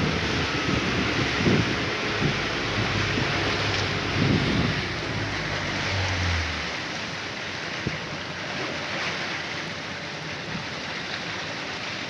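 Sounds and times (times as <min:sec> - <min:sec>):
rushing water: 0:00.0 - 0:12.0
wind: 0:00.0 - 0:12.0.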